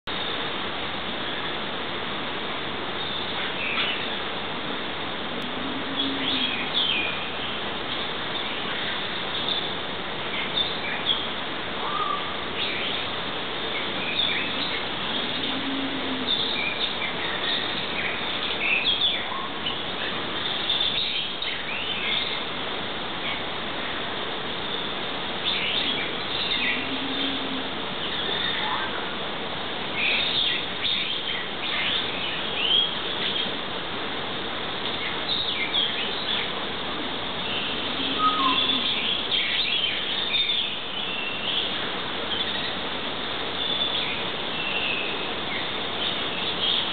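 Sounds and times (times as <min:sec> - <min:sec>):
steady background hiss: 0:00.0 - 0:46.9
small birds chirping: 0:05.4 - 0:22.6, 0:23.2 - 0:29.0, 0:29.9 - 0:33.6, 0:34.8 - 0:42.9, 0:43.5 - 0:46.9.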